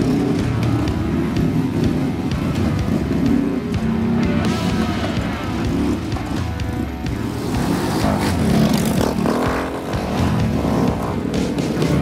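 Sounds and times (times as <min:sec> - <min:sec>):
background music with beat: 0:00.0 - 0:12.0
dirt bike engines running: 0:00.0 - 0:12.0.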